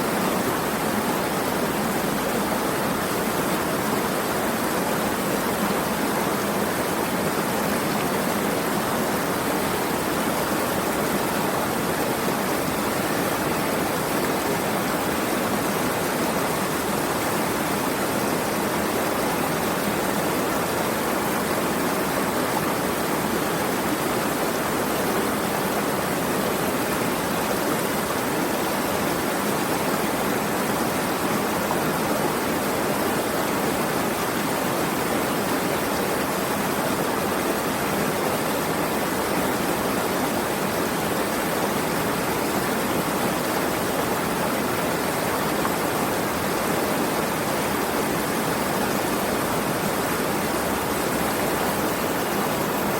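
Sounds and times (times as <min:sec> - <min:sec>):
flowing water: 0:00.0 - 0:52.9.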